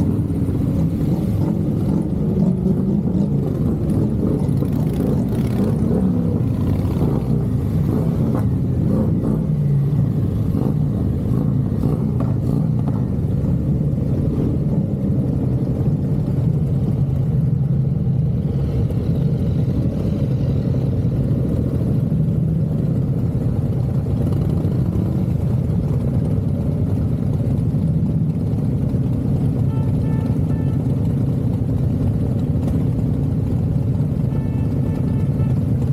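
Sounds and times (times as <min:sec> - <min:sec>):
motorcycle engine running: 0:00.0 - 0:35.9
road and wind noise: 0:00.0 - 0:35.9.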